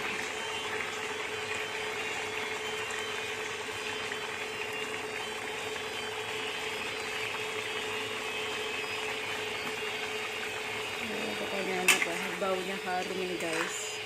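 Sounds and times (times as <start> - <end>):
broth boiling and bubbling: 0.0 - 14.0.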